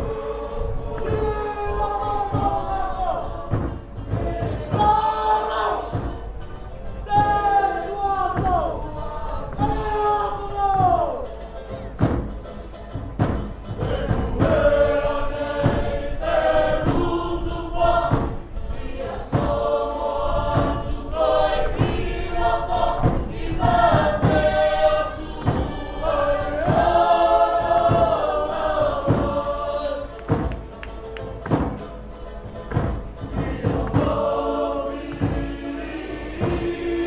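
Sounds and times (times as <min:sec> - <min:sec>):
group singing in chorus: 0:00.0 - 0:37.0
steady beat: 0:01.0 - 0:37.0.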